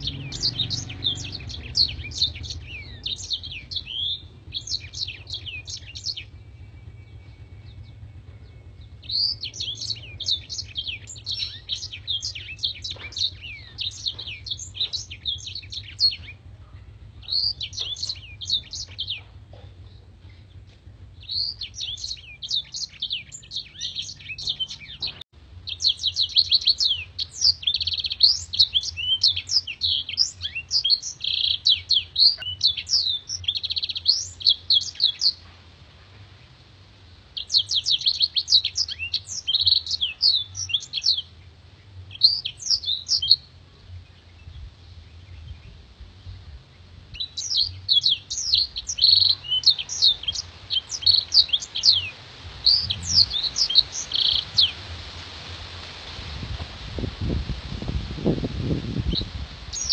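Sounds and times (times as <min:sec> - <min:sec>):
canary singing: 0:00.0 - 0:35.5, 0:37.4 - 0:43.5, 0:47.1 - 0:55.2, 0:59.0 - 0:59.9
faint low hum: 0:00.0 - 0:59.9.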